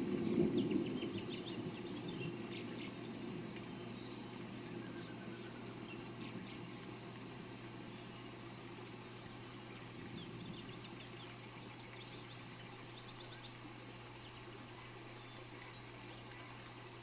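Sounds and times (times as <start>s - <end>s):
low steady hum: 0.0s - 17.0s
rain hissing: 0.0s - 17.0s
small birds chirping: 0.0s - 17.0s.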